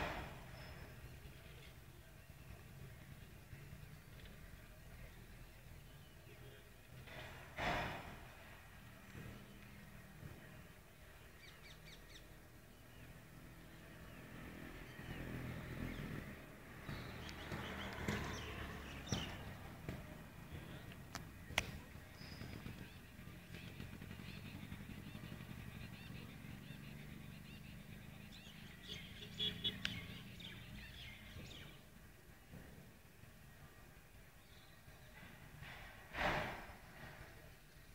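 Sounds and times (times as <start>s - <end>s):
low outdoor rumble: 0.0s - 37.9s.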